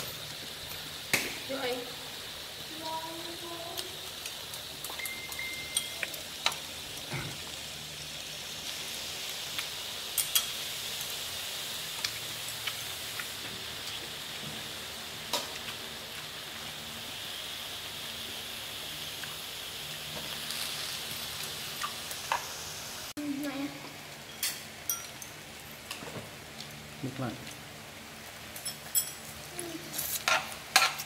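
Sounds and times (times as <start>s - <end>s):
meat and vegetables sizzling: 0.0s - 31.0s.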